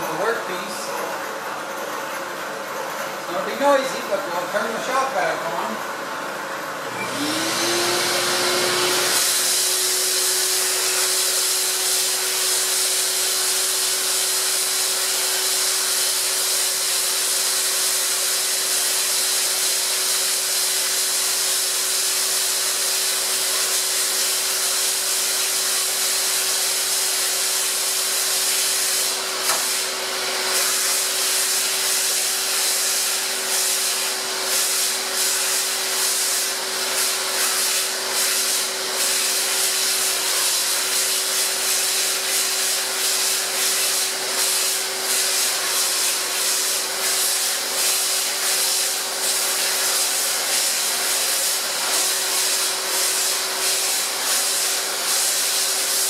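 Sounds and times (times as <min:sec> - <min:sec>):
shop vac running: 0:00.0 - 0:56.0.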